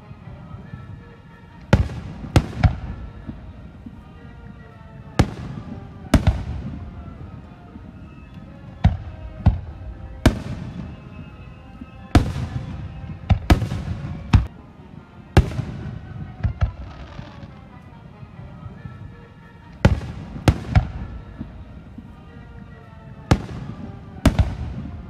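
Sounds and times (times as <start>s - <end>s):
fireworks bursting: 0.0s - 14.6s, 15.4s - 25.0s.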